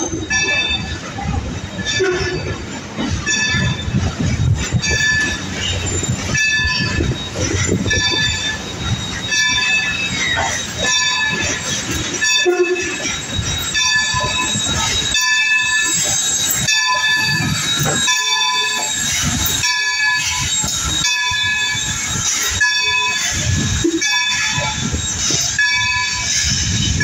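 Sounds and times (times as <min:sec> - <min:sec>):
high multi-toned squeal: 0:00.0 - 0:27.0
steam train rumbling and chuffing: 0:00.0 - 0:27.0.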